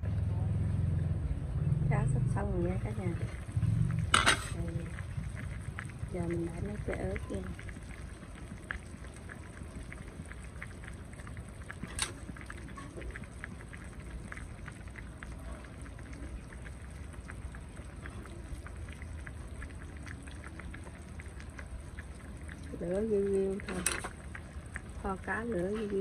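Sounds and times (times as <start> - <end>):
sauce bubbling and popping: 2.8 - 26.0.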